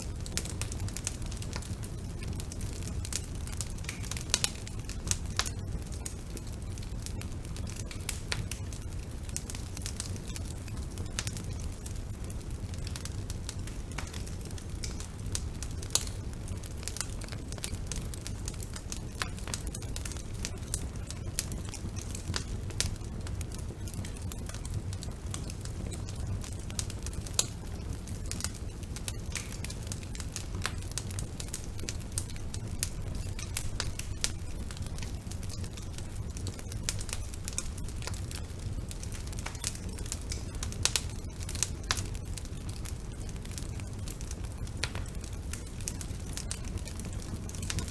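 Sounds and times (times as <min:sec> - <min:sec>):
fire crackles and pops: 0:00.0 - 0:47.9
low rumble of flames: 0:00.0 - 0:47.9.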